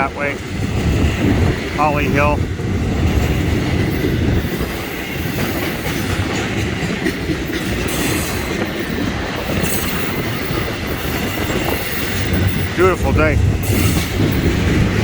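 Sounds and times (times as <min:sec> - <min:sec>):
freight train wheels clattering on rail: 0:00.0 - 0:15.0.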